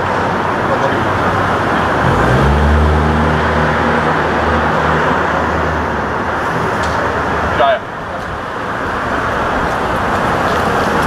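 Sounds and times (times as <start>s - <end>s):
street traffic noise: 0.0s - 11.0s
vehicle engine droning: 0.0s - 11.0s.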